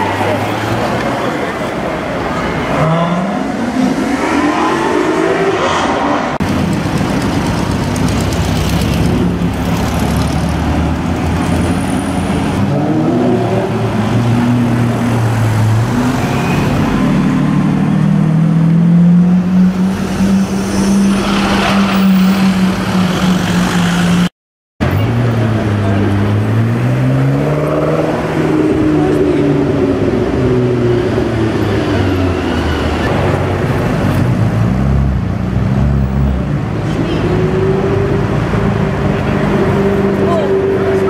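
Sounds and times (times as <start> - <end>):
car engines revving: 0.0 - 41.0
street traffic: 0.0 - 41.0.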